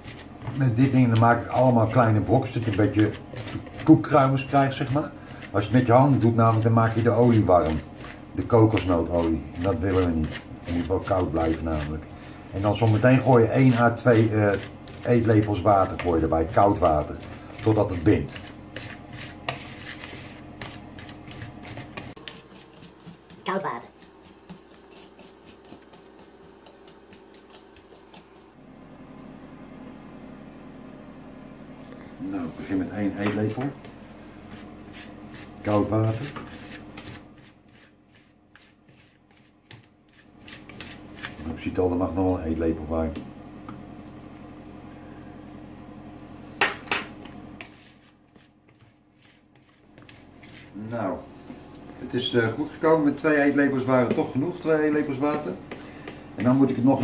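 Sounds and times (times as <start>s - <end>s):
whisk scraping plastic bowl: 0.0s - 28.6s, 32.4s - 43.2s, 46.6s - 57.0s
steady low hum: 0.0s - 57.0s.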